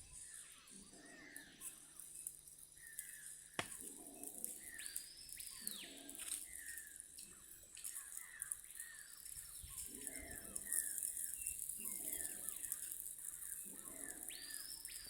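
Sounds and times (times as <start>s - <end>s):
insect hiss: 0.0s - 15.0s.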